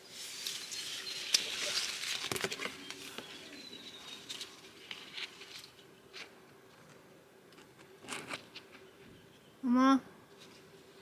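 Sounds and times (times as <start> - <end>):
rustling and crackling: 0.0 - 8.9.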